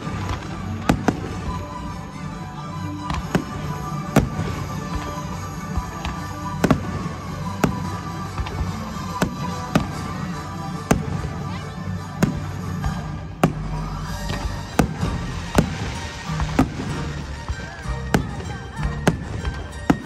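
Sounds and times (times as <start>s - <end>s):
music soundtrack: 0.0s - 20.0s.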